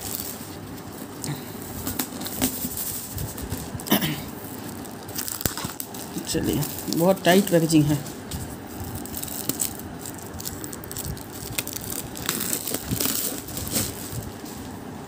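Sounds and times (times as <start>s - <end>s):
plastic wrap crinkling: 0.0s - 14.7s.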